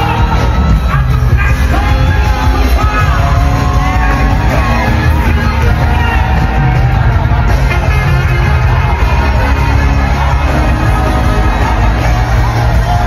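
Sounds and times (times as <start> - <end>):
amplified worship music: 0.0 - 13.0.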